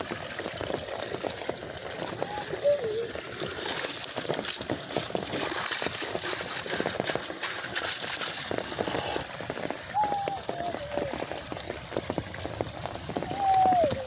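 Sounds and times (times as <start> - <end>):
rain falling: 0.0 - 14.0
raindrops ticking on hard surfaces: 0.0 - 14.0.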